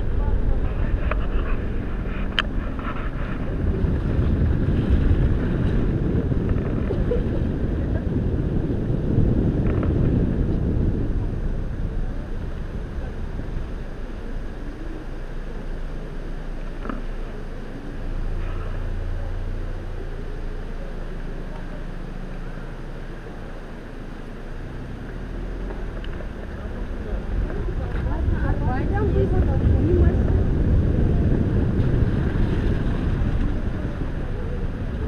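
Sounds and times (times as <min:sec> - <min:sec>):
wind buffeting microphone: 0:00.0 - 0:20.2, 0:24.6 - 0:35.0
car driving slowly: 0:00.0 - 0:35.0.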